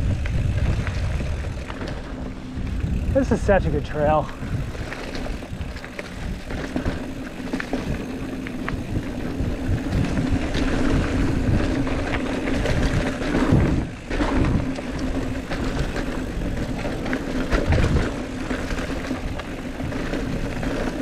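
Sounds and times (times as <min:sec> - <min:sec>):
bike rattling over bumps: 0:00.0 - 0:21.0
freewheeling hub buzz: 0:00.0 - 0:21.0
tyres on dirt: 0:00.0 - 0:21.0
wind on microphone: 0:00.0 - 0:21.0.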